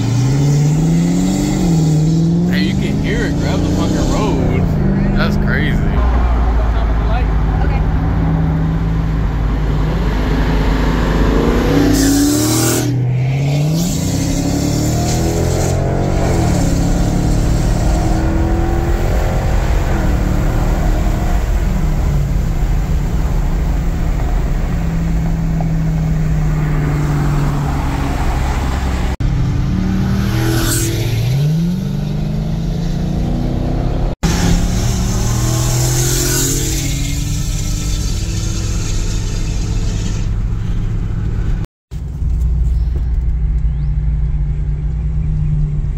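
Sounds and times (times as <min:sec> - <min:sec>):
car engine accelerating hard: 0:00.0 - 0:41.7
car engine: 0:00.0 - 0:45.9
road and wind noise: 0:00.0 - 0:45.9.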